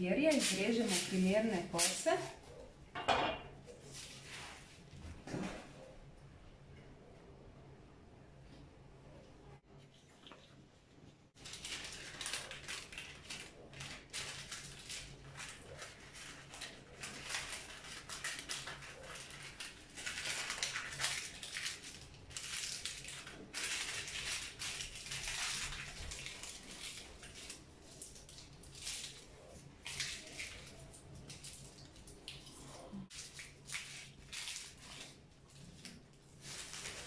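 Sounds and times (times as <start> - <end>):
baking paper crinkling: 0.0 - 2.7, 3.6 - 5.7, 11.4 - 37.0.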